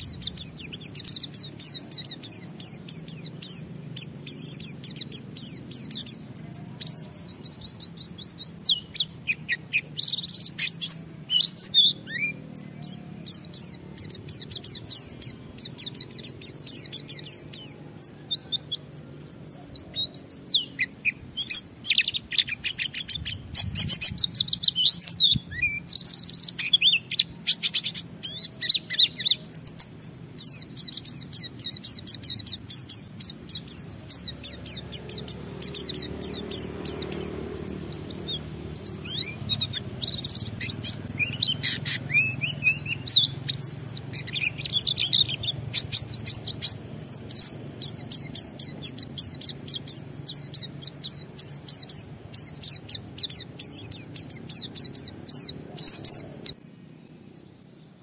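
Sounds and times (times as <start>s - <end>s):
bird twittering song: 0.0s - 58.0s.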